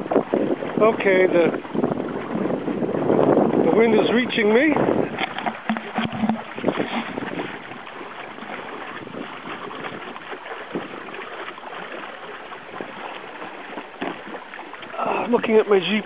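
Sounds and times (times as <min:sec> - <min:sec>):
water rushing along a hull: 0:00.0 - 0:16.0
wind on the microphone: 0:00.0 - 0:16.0.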